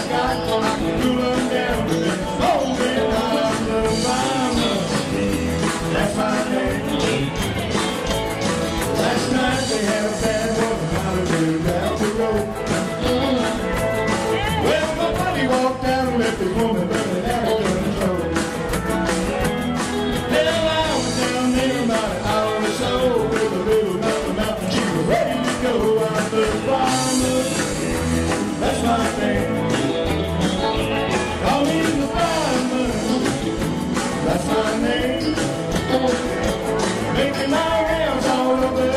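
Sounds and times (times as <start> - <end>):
country-rock band playing: 0.0 - 38.9.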